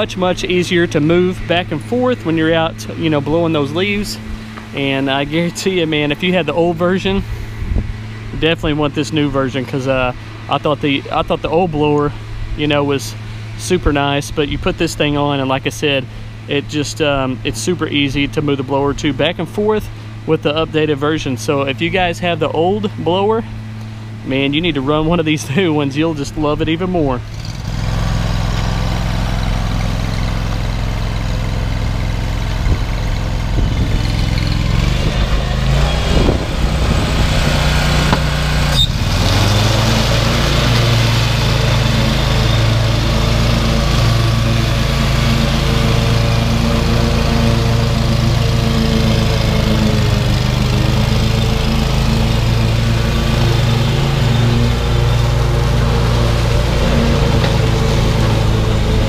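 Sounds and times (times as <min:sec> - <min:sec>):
mower engine running: 0:00.0 - 0:59.0.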